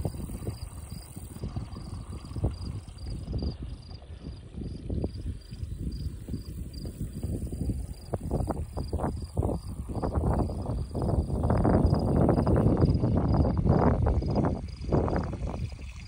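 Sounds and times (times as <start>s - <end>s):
cricket chirping: 0.0s - 16.0s
low rumble on microphone: 0.0s - 16.0s.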